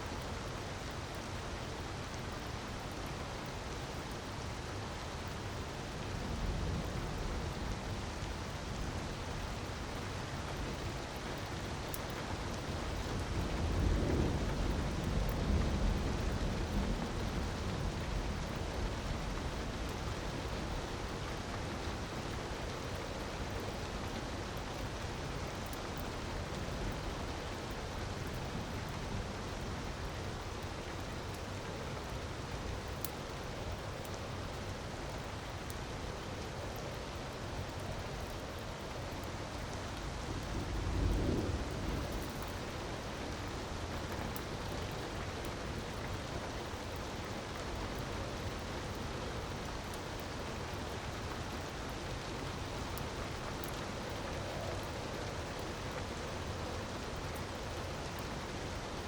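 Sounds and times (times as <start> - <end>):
rushing falling water: 0.0 - 59.0
wood fire crackling: 8.0 - 59.0.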